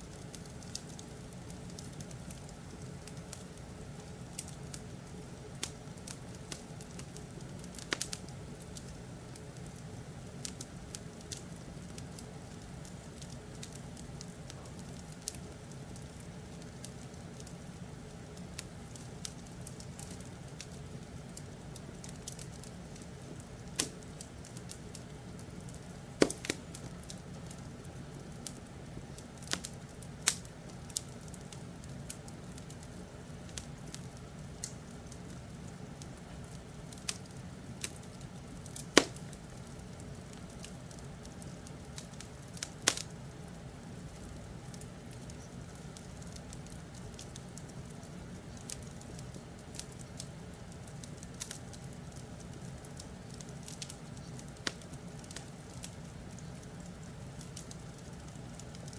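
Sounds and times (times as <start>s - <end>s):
low background hum: 0.0s - 58.9s
wood fire crackling: 0.0s - 58.9s.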